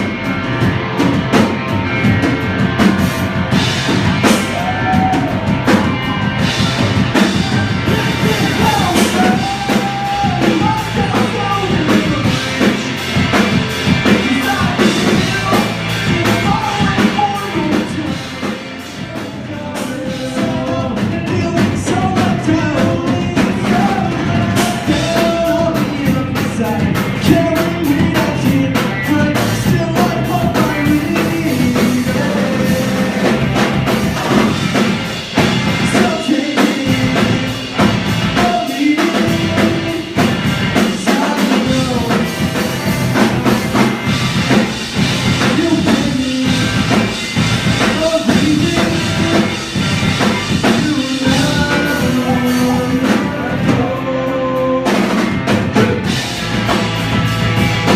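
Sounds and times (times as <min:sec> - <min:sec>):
rock band playing live: 0:00.0 - 0:57.9
lead vocal singing: 0:02.2 - 0:57.2.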